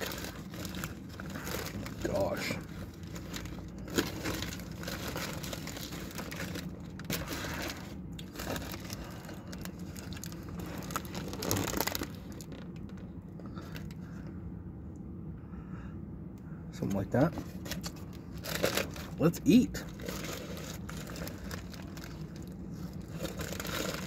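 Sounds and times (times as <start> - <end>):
paper wrapper crinkling: 0.0 - 13.9, 17.4 - 24.0.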